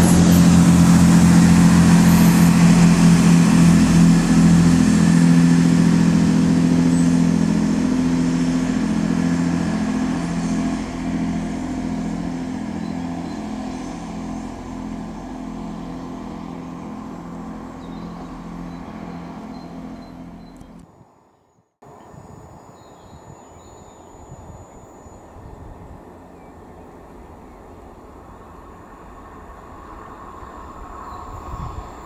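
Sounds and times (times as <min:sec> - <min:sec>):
diesel train engine hum: 0:00.0 - 0:20.8, 0:24.7 - 0:32.0.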